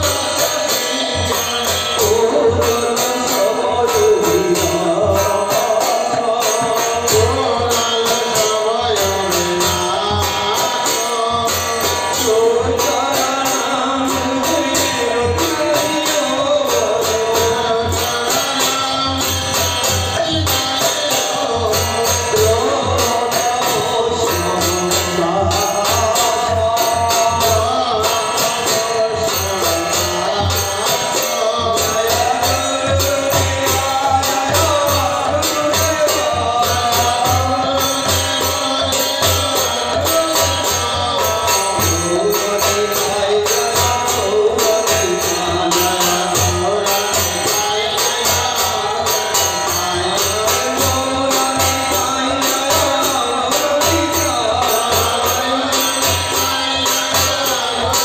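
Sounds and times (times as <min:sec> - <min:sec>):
jingling metal percussion: 0:00.0 - 0:58.0.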